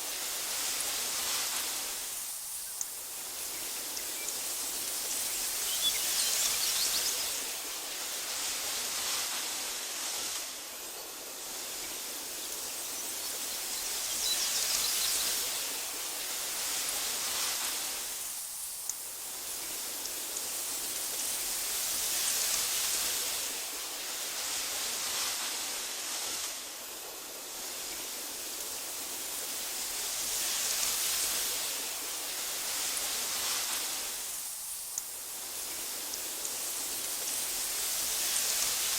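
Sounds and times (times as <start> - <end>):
breeze rustling through grass: 0.0 - 38.9.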